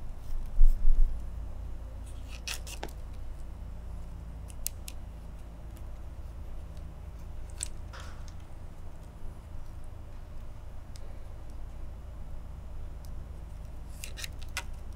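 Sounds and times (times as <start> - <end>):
low steady hum: 0.0 - 14.9
cane strands clicking and crackling: 2.0 - 14.9.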